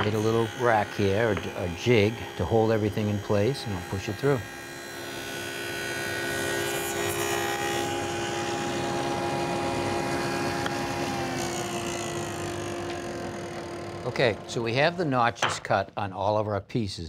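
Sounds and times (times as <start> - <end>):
saw blade cutting wood: 0.0 - 15.8
table saw running: 0.0 - 15.8.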